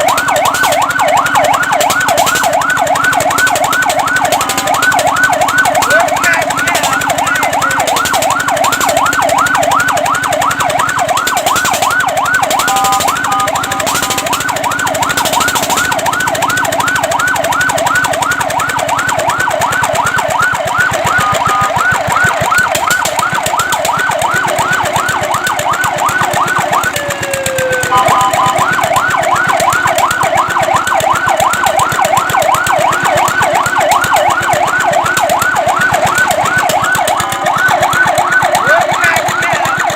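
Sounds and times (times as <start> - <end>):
fire truck siren yelping: 0.0 - 39.9.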